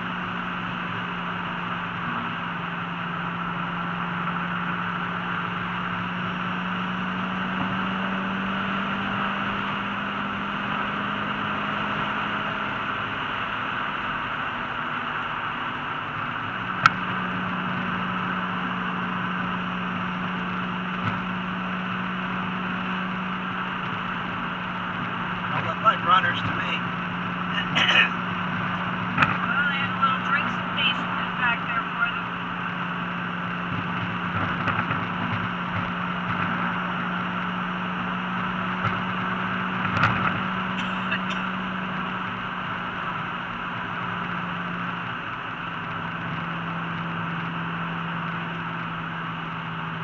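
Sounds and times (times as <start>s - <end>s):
car engine cruising: 0.0s - 50.0s.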